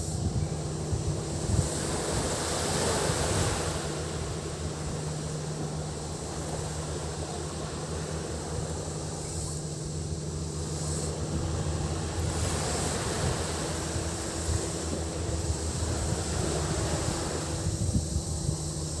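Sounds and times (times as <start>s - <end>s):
cicadas droning: 0.0s - 19.0s
low steady hum: 0.0s - 19.0s
waves washing onto sand: 0.0s - 19.0s.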